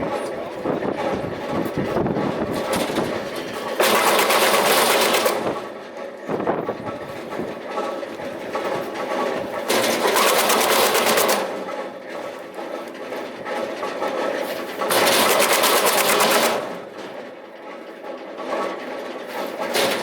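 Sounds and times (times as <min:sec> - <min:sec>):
wood chipper knocking: 0:00.0 - 0:20.0
wood chipper running: 0:00.0 - 0:20.0.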